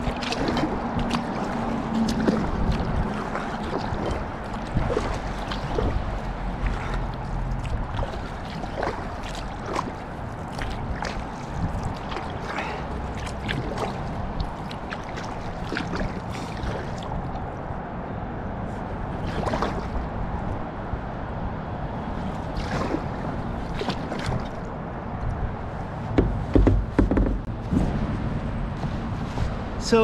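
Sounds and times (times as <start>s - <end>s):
paddle splashes and drips: 0.0s - 17.9s, 18.7s - 20.6s, 21.9s - 27.5s
low rush of water: 0.0s - 30.0s.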